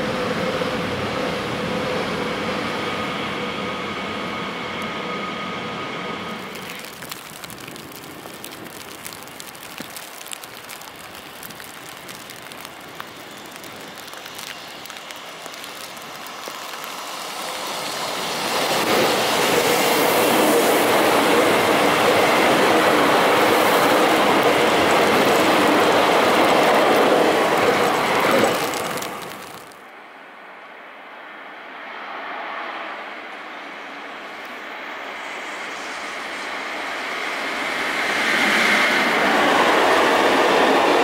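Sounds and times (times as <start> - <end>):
electric train passing on rails: 0.0 - 41.0.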